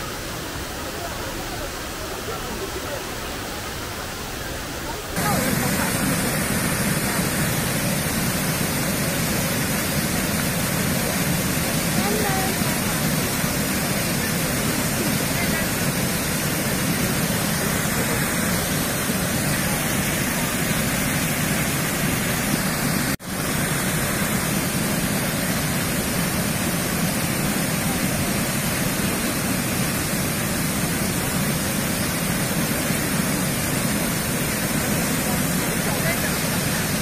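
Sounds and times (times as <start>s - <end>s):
waterfall roaring: 0.0s - 37.0s.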